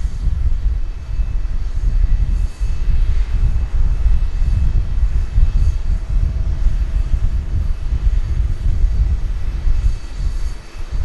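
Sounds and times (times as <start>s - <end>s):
faint whining tones: 0.0s - 11.0s
jet engines rumbling: 0.0s - 11.0s.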